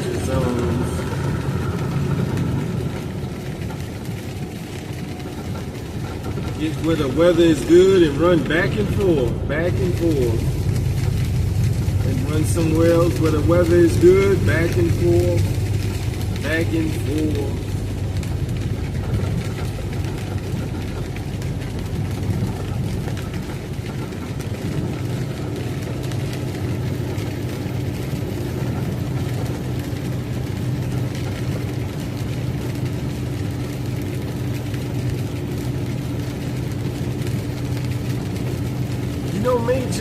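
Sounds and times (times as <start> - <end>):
steady higher hum: 0.0 - 40.0
truck engine and road noise: 0.0 - 40.0.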